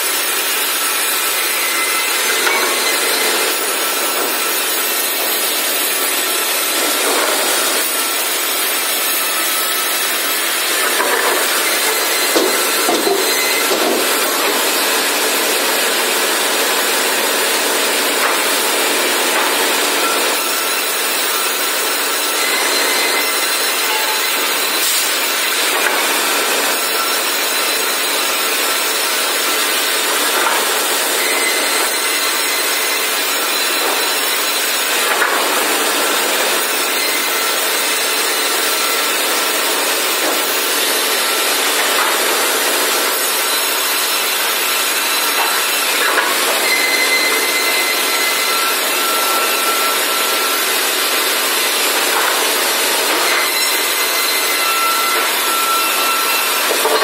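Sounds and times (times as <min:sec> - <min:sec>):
saw whines: 0:00.0 - 0:57.0
sawmill machinery cutting wood: 0:00.0 - 0:57.0.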